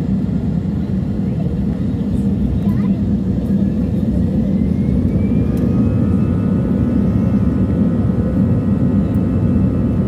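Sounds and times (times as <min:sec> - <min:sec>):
faint engine whine: 0:00.0 - 0:10.0
jet engine cabin rumble: 0:00.0 - 0:10.0.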